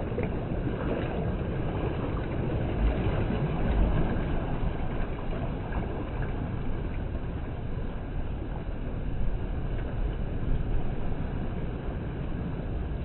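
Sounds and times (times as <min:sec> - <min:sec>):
surf rumbling among rocks: 0:00.0 - 0:13.0.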